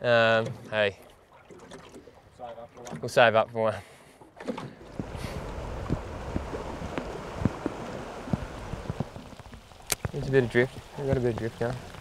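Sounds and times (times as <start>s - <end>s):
water splashing around boat: 0.0s - 12.0s.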